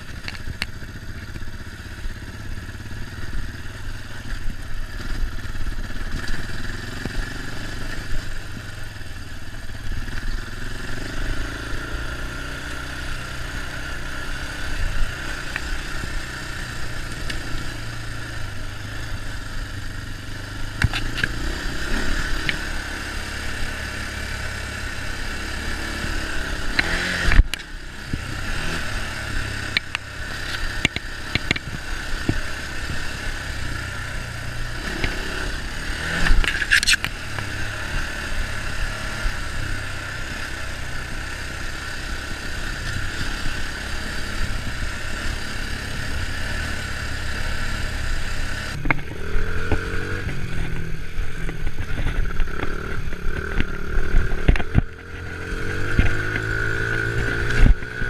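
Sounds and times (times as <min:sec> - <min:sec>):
atv engine running: 0:00.0 - 0:58.0
quad knocking and rattling over bumps: 0:00.0 - 0:58.0.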